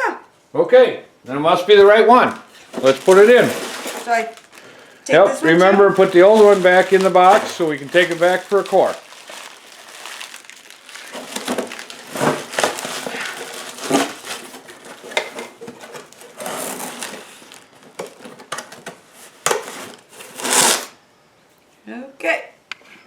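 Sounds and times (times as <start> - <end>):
cardboard and packing crinkling: 2.2 - 20.9.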